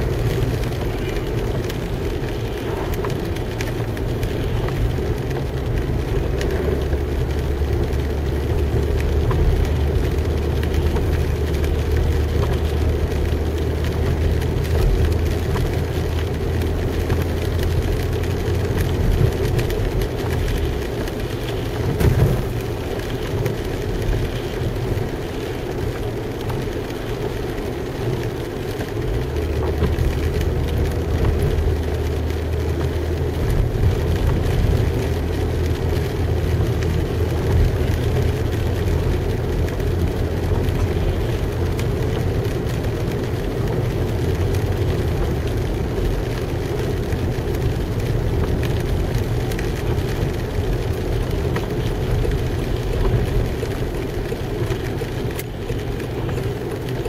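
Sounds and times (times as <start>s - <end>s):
engine and road drone: 0.0s - 57.0s.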